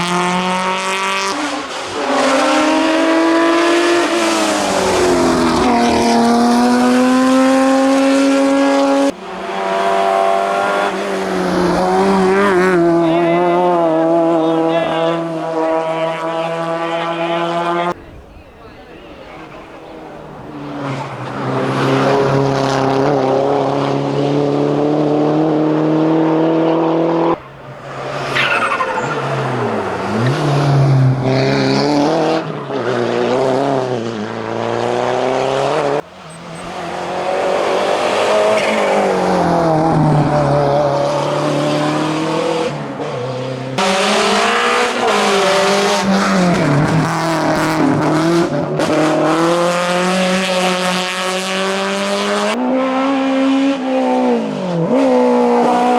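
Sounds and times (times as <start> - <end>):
race car engines revving: 0.0 - 55.9.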